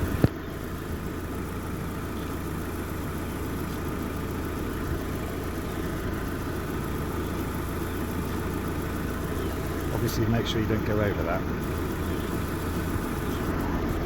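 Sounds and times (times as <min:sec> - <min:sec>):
air conditioning running: 0:00.0 - 0:14.0
car engine idling: 0:00.0 - 0:14.0.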